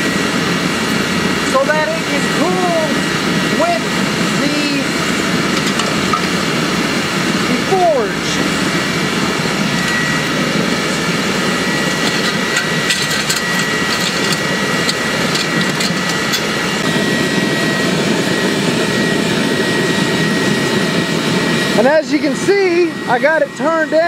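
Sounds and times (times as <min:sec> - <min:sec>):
oil burner rushing: 0:00.0 - 0:24.0.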